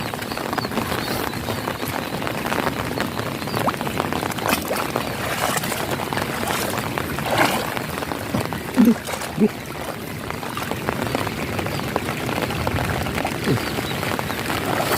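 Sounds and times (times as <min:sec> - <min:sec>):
steady rainfall: 0:00.0 - 0:14.9.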